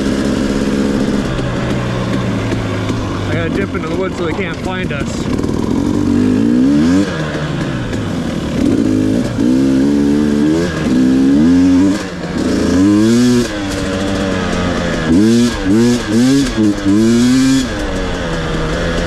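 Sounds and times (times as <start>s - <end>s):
two-stroke dirt bike revving: 0.0s - 19.0s.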